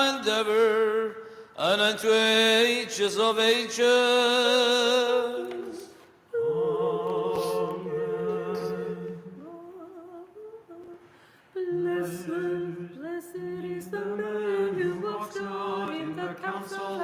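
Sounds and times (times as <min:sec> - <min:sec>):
voices singing in harmony: 0:00.0 - 0:17.0.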